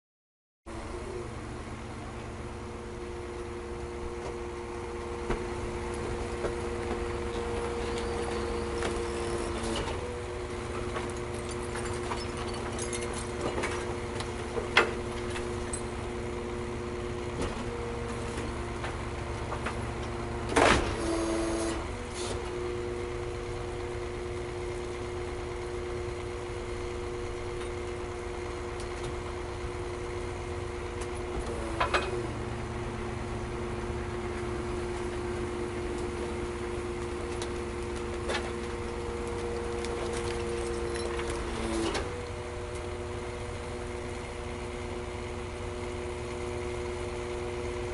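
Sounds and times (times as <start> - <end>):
garbage truck engine idling: 0.7 - 47.9.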